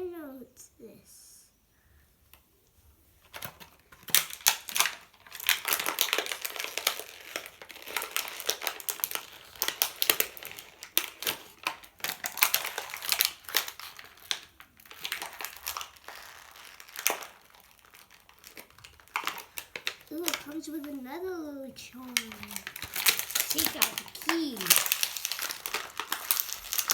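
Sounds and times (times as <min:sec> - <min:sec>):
plastic packaging crinkling: 0:03.3 - 0:26.9.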